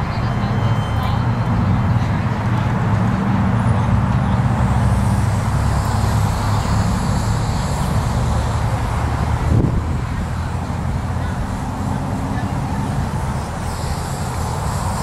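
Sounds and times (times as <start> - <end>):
heavy vehicle engine running: 0.0 - 15.0
traffic hum: 0.0 - 15.0.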